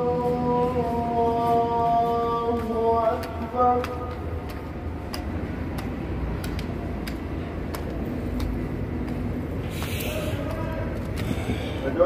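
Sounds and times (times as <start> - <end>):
hard-soled shoes on stone: 0.0 - 12.0
low outdoor rumble: 0.0 - 12.0.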